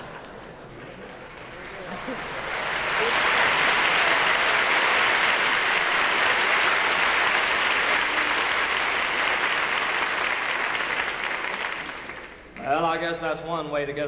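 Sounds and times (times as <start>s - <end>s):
audience applauding: 0.7s - 12.7s.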